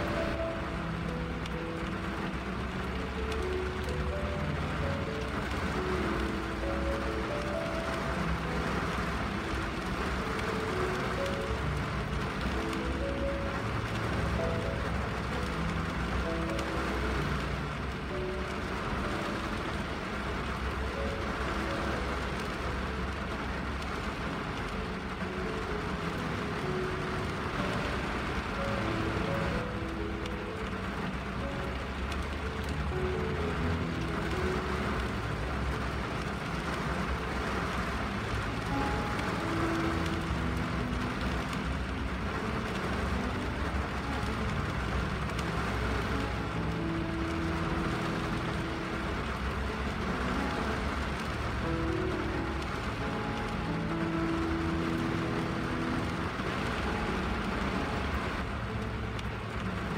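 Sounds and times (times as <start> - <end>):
rain on car windshield: 0.0 - 59.9
soft melody notes: 0.0 - 59.9.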